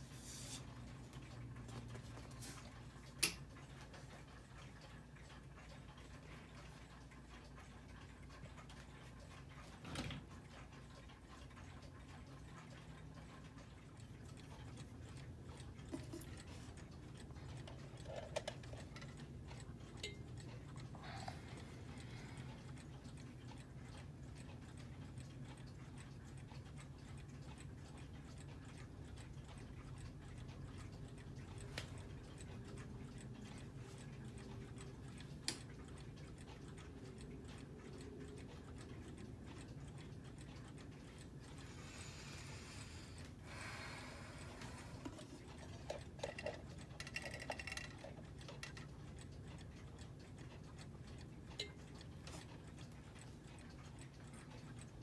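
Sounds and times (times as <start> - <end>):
clocks ticking: 0.0 - 55.0
low steady hum: 0.0 - 55.0.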